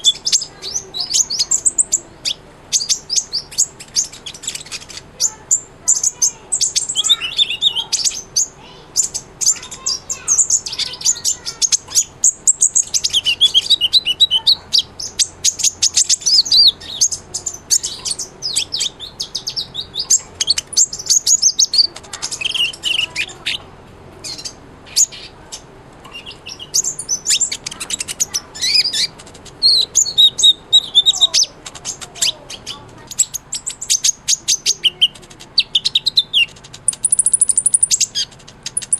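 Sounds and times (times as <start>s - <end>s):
bird singing high chirps and trills: 0.0s - 38.9s.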